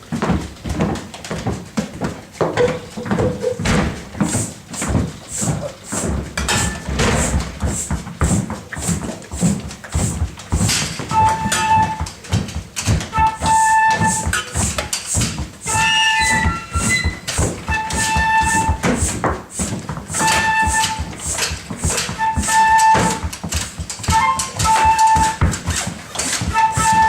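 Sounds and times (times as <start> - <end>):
stamping and tapping: 1.8 - 27.0
hissy puffs: 3.8 - 27.0.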